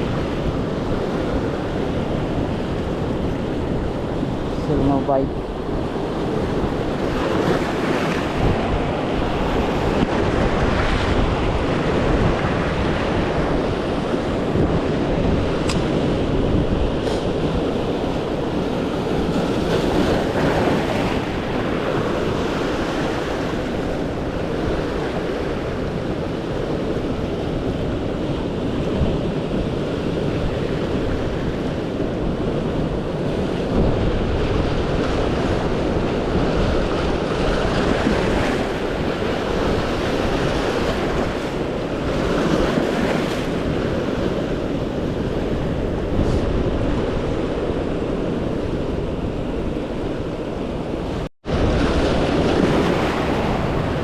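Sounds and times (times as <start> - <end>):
ocean surf washing: 0.0 - 54.0
wind buffeting microphone: 0.0 - 54.0.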